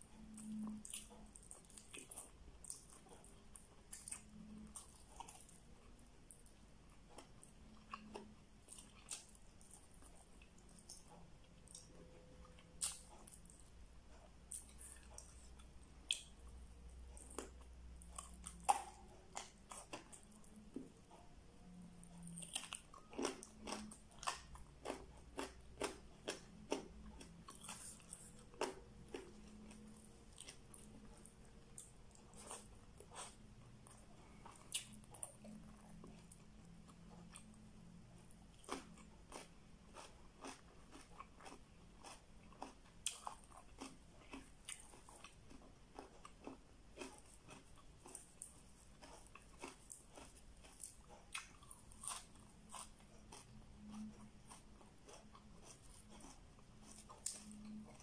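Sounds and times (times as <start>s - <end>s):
chewing and biting food: 0.0s - 58.0s.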